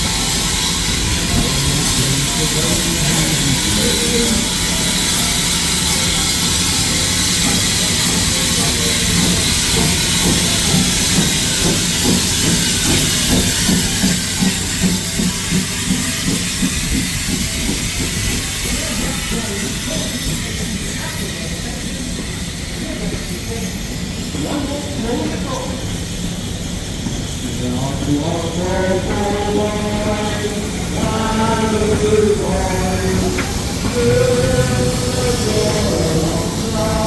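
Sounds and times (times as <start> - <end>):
low regular pulsing: 0.0 - 37.0
steam locomotive hissing: 0.0 - 37.0.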